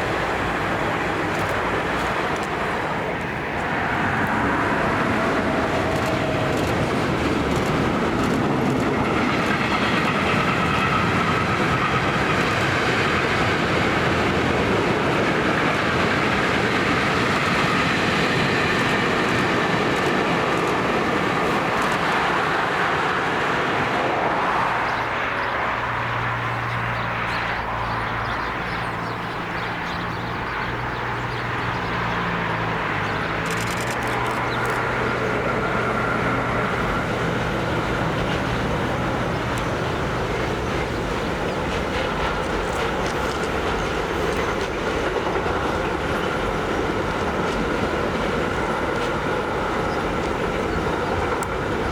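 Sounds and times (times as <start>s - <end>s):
train passing: 0.0s - 51.9s.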